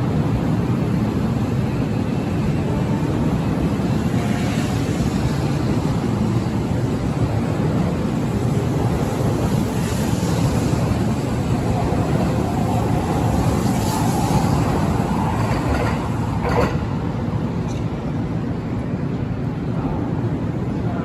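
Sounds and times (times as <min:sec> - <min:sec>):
rumbling vehicle noise: 0:00.0 - 0:21.0.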